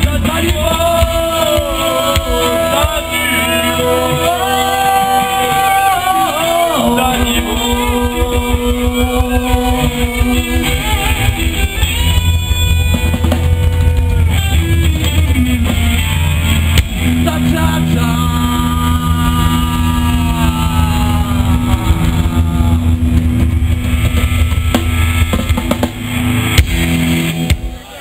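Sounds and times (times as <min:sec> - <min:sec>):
electric guitar lead notes: 0:00.0 - 0:28.0
live rock band playing: 0:00.0 - 0:28.0.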